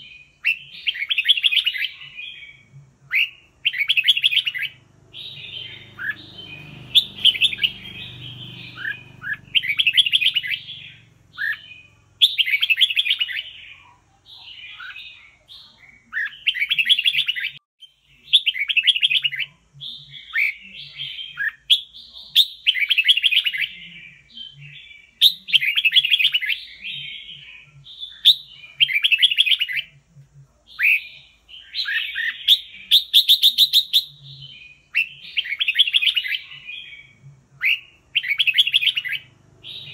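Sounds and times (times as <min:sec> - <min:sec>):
bird singing bright chattering phrases: 0:00.0 - 0:39.9.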